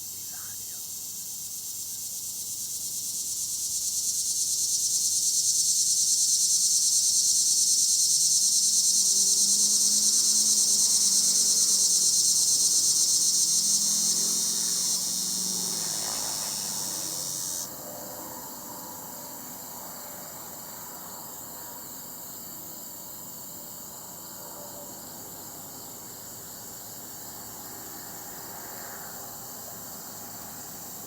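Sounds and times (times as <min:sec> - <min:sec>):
loud high cicada-like insect buzz: 0:00.0 - 0:24.4, 0:25.0 - 0:31.0
faint insect chorus: 0:00.0 - 0:31.0.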